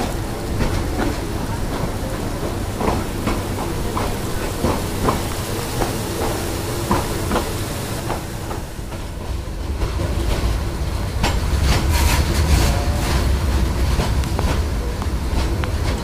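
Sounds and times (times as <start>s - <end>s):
low train rumble: 0.0s - 16.0s
train wheels clacking over joints: 0.0s - 16.0s.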